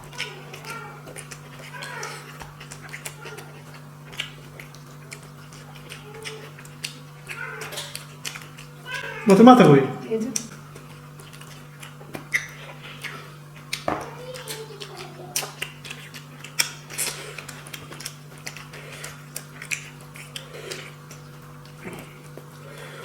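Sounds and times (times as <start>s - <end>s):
mouth clicks and chewing: 0.0s - 9.0s, 10.4s - 23.0s
steady low hum: 0.0s - 23.0s.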